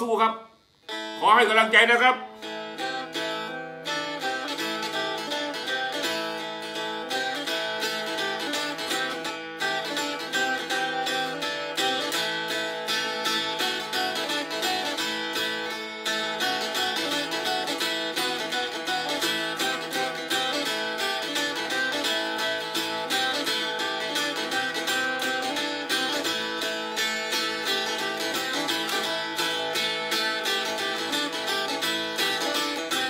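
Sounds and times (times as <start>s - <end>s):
plucked lute notes: 0.0s - 33.0s.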